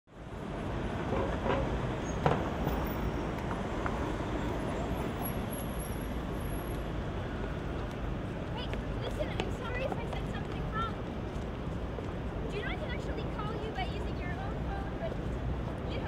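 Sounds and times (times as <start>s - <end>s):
passing cars: 0.1s - 16.0s.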